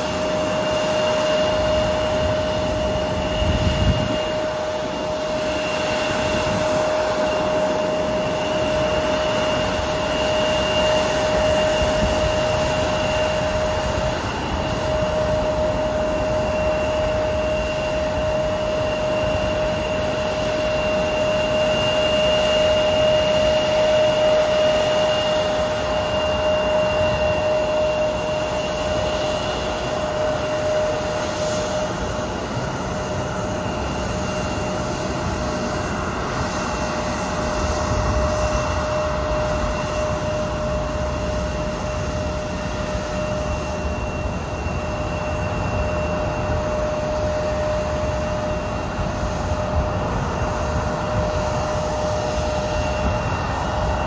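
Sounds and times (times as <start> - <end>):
jet engines whining at taxi: 0.0 - 54.0.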